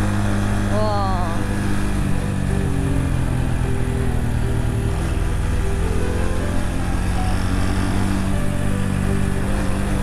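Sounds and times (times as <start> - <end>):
motorcycle engine cruising: 0.0 - 10.0
wind and road noise: 0.0 - 10.0.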